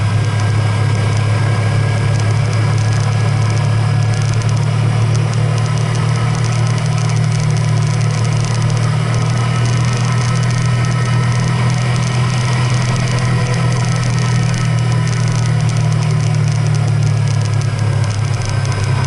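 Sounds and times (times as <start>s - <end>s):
road and wind noise: 0.0s - 19.0s
vehicle engine hum: 0.0s - 19.0s.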